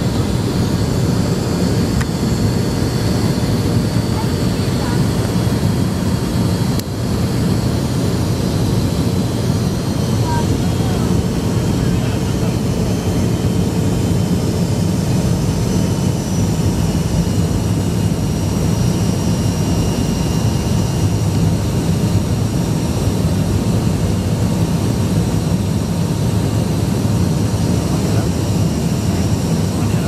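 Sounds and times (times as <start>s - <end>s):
jet engine and airflow roar: 0.0s - 30.0s.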